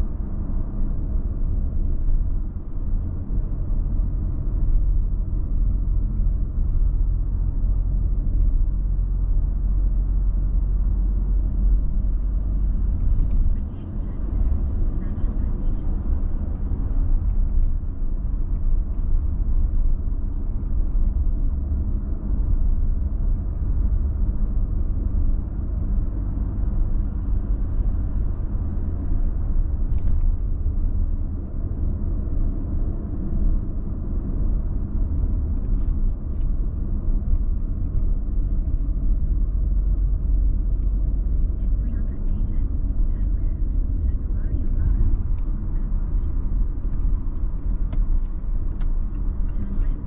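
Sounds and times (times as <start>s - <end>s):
car engine noise: 0.0s - 50.0s
road and tyre rumble: 0.0s - 50.0s.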